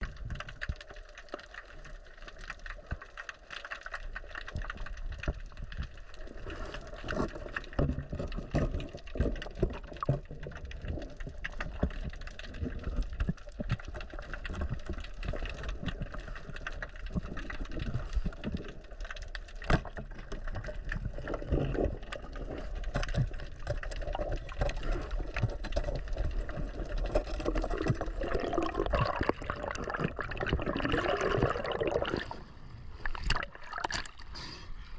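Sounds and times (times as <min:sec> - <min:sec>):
sharp clicks and crackles: 0:00.0 - 0:32.4
water moving underwater: 0:00.0 - 0:34.9.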